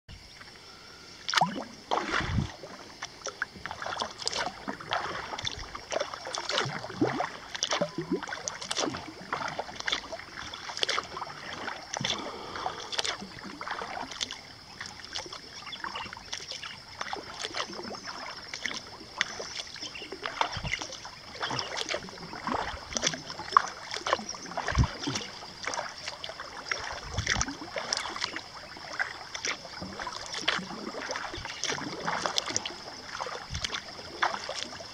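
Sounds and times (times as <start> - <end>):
paddle splashing in water: 0.2 - 34.9.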